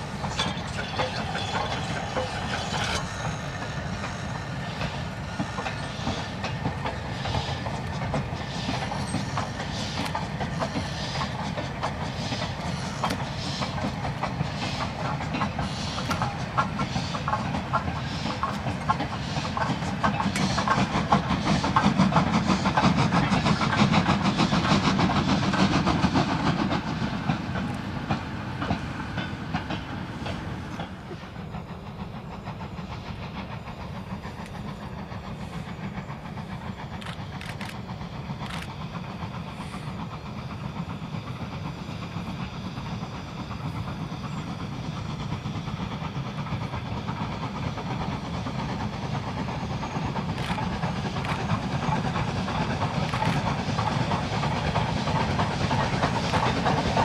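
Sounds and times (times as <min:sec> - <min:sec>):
steam locomotive exhaust beats: 0:00.0 - 0:57.0
wagons running on rails: 0:00.0 - 0:57.0.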